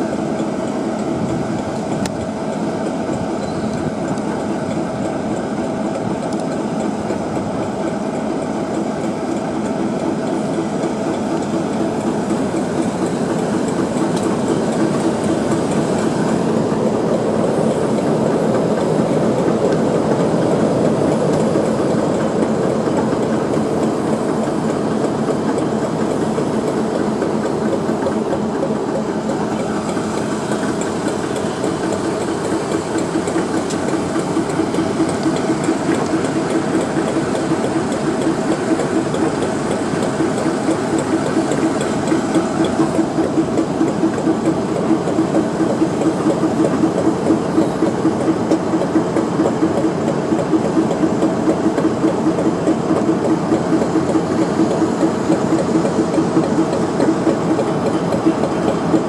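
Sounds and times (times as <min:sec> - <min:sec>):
diesel locomotive engine idling: 0:00.0 - 0:59.0.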